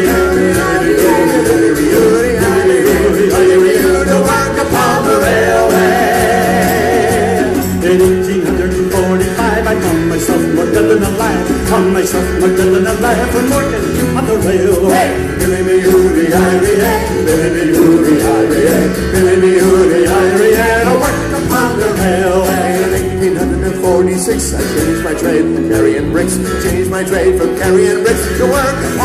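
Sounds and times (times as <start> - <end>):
acoustic guitars strumming: 0.0 - 29.0
bass: 0.0 - 29.0
jingling percussion: 0.0 - 29.0
voices singing: 0.0 - 29.0.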